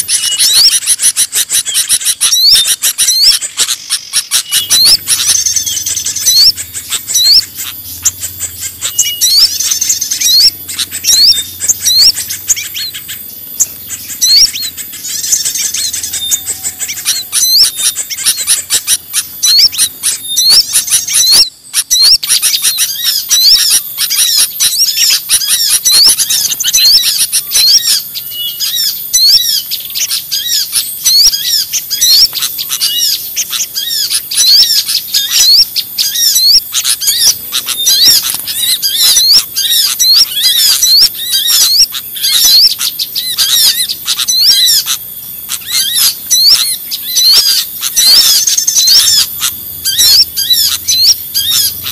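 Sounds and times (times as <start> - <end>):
chorus of small birds chirping: 0.0 - 51.9.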